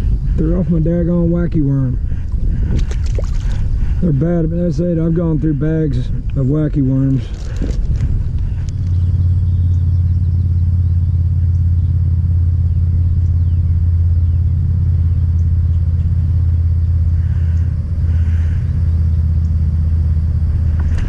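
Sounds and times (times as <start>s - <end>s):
loud low rumble: 0.0s - 21.0s.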